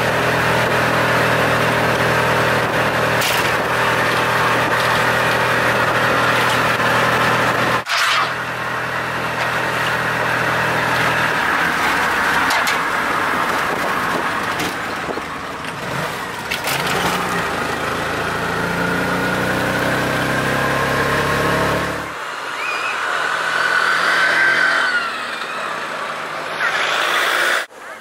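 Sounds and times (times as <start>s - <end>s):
auto rickshaw engine running: 0.0s - 27.0s.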